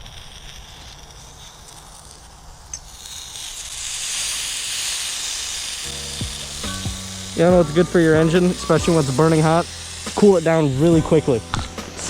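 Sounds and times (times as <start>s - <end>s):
water sizzling on hot engine: 0.0s - 12.0s.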